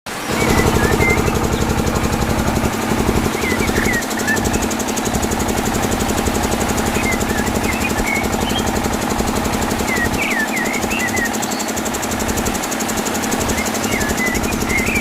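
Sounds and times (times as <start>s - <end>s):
small engine knocking: 0.1s - 15.0s.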